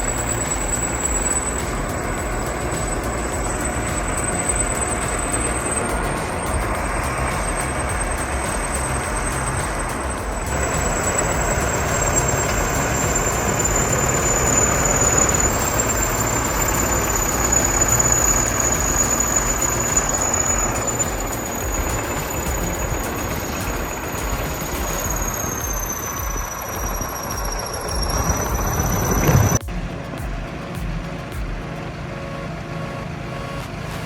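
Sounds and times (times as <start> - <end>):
diesel engine running: 0.0 - 33.8
high-pitched whine: 0.0 - 34.0.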